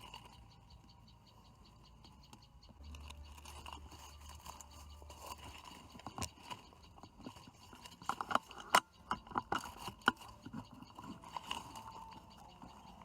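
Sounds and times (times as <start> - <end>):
faint drone of insects: 0.0 - 13.0
sharp clicks and knocks: 1.2 - 13.0.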